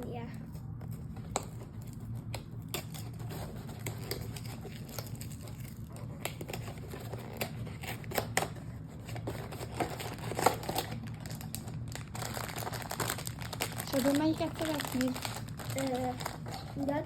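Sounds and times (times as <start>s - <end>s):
low steady hum: 0.0s - 17.0s
crinkling and rustling plastic: 0.1s - 17.0s
toy packaging being torn: 1.4s - 17.0s.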